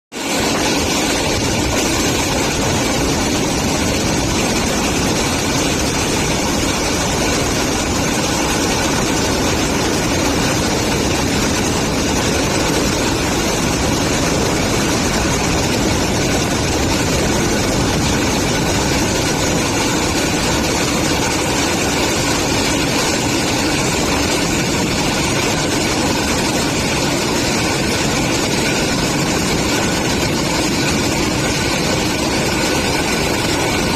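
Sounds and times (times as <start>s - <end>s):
passenger train running: 0.1s - 33.9s.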